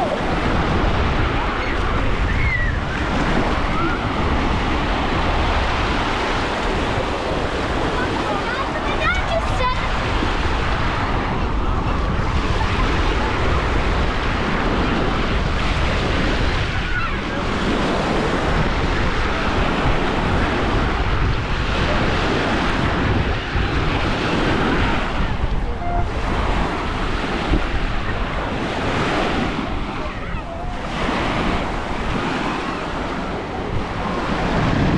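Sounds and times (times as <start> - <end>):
waves washing onto beach: 0.0 - 34.9
wind noise on microphone: 0.0 - 34.9.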